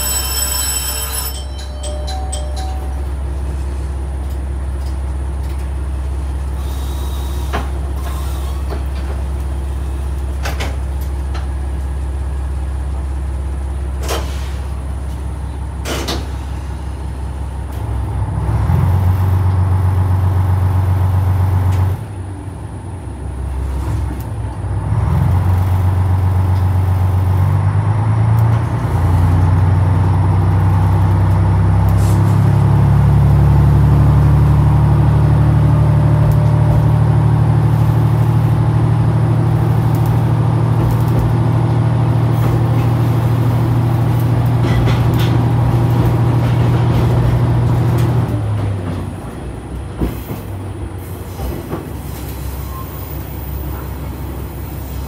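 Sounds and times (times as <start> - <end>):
diesel engine idling and revving: 3.3 - 51.0.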